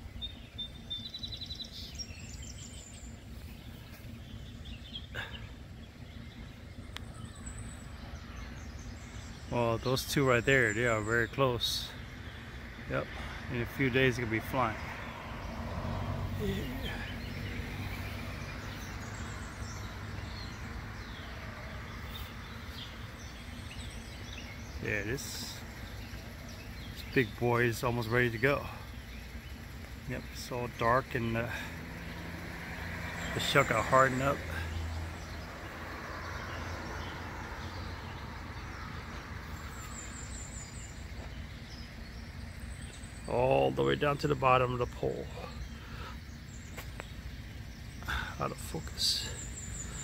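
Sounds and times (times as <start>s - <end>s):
bird chirps: 0.0s - 50.0s
distant road traffic rumble: 0.0s - 50.0s.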